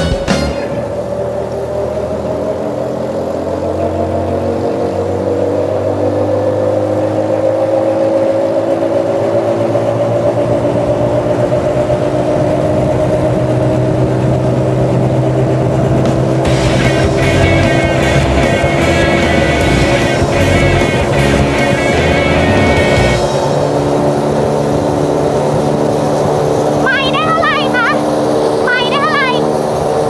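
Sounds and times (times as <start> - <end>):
low hum and road noise: 0.0 - 30.0
vehicle whine rising in pitch: 0.0 - 30.0.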